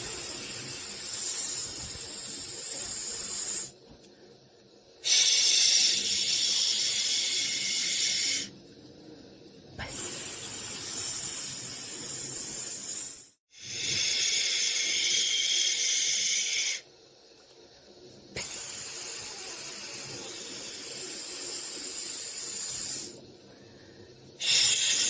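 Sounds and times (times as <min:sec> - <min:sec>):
high-pitched white noise hiss: 0:00.0 - 0:25.0.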